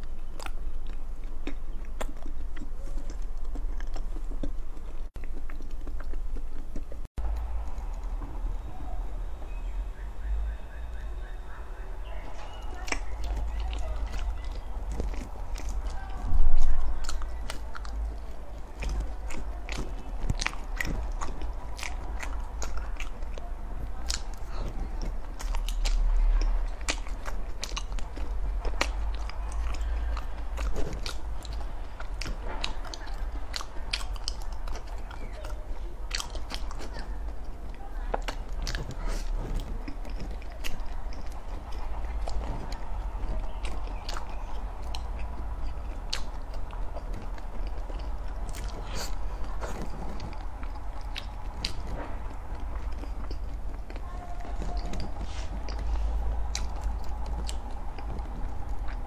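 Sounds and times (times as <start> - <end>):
close chewing and mouth clicks: 0.0 - 59.0
low hum: 0.0 - 59.0.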